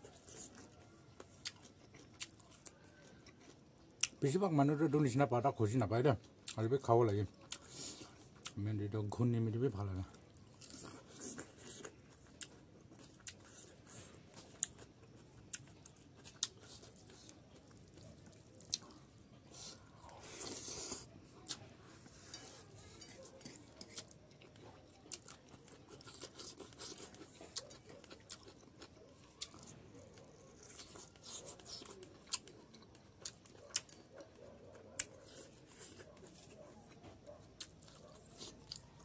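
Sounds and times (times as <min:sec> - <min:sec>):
chewing food: 0:00.0 - 0:04.2, 0:06.2 - 0:08.6, 0:09.8 - 0:39.0.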